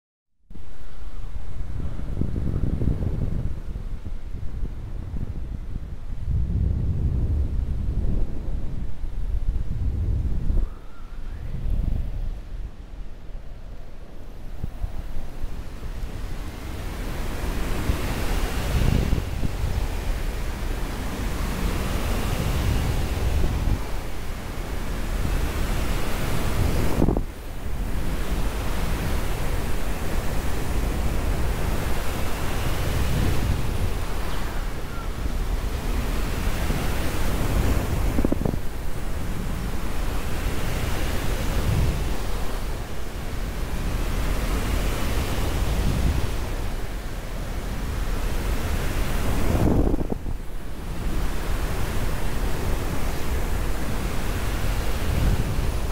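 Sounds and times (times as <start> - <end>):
wind buffeting microphone: 1.1 - 55.9.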